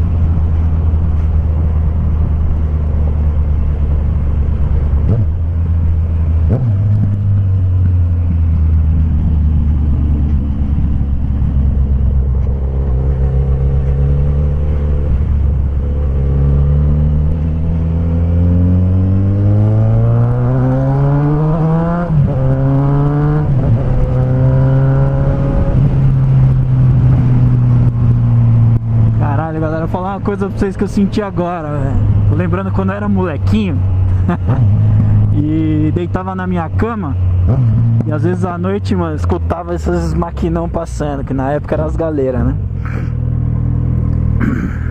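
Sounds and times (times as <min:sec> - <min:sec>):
motorcycle engine revving: 0:00.0 - 0:29.8, 0:31.2 - 0:40.3, 0:42.4 - 0:44.9.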